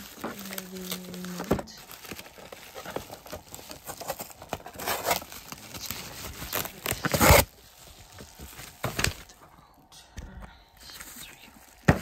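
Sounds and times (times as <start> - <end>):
bubble wrap crinkling: 0.0 - 9.5, 10.6 - 12.0.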